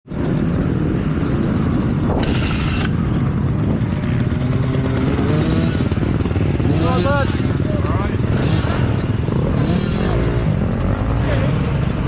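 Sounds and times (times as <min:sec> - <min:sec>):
motocross bike engines revving: 0:00.1 - 0:12.0.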